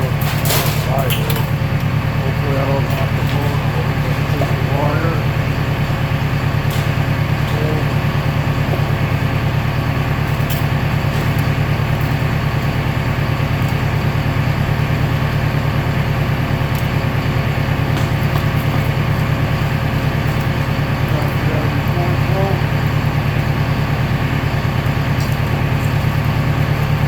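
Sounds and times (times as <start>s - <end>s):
baler machinery humming: 0.0s - 27.0s.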